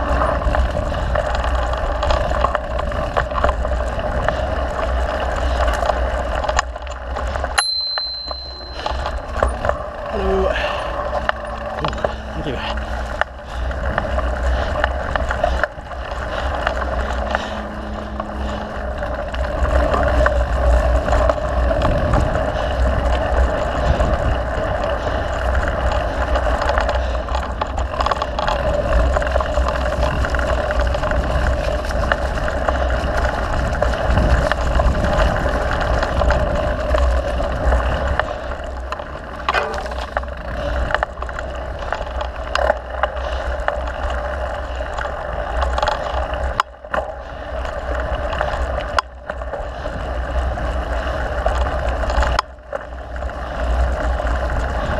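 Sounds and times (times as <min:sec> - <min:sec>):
wind buffeting microphone: 0:00.0 - 0:07.7, 0:08.4 - 0:54.9
bike rattles and clicks: 0:00.0 - 0:54.9
deep rumble: 0:00.0 - 0:54.9.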